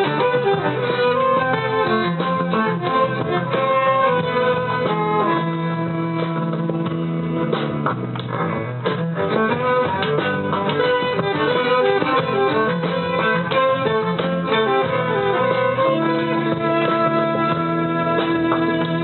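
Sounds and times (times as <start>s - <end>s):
quick melody line: 0.0s - 7.9s, 9.2s - 19.0s
guitar accompaniment: 0.0s - 19.0s.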